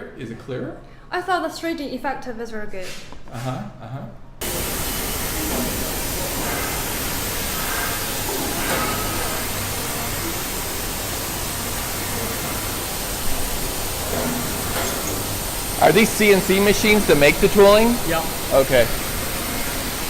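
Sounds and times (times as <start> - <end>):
machinery and ventilation hiss: 0.0 - 20.0.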